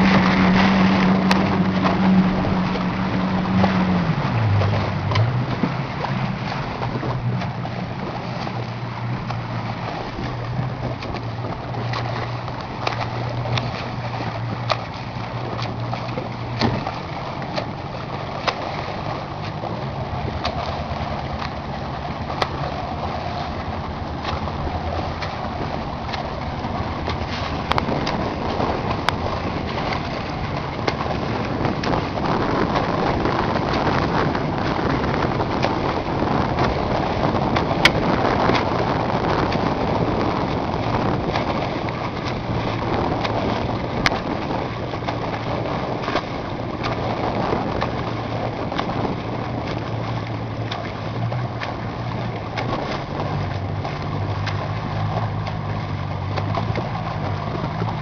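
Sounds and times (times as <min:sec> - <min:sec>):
motorboat engine humming: 0:00.0 - 0:58.0
water noise: 0:00.0 - 0:58.0
wind noise: 0:00.0 - 0:58.0.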